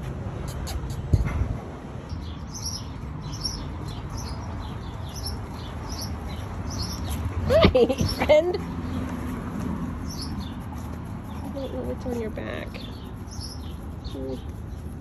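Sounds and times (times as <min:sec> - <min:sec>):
small birds chirping: 0:02.1 - 0:15.0.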